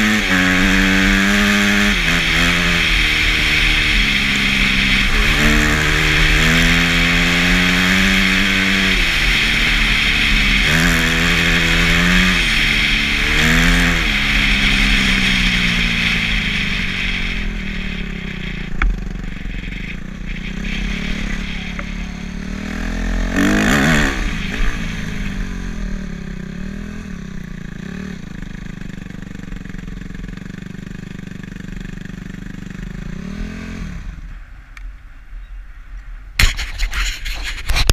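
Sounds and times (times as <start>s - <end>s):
dirt bike engine revving: 0.0s - 34.3s.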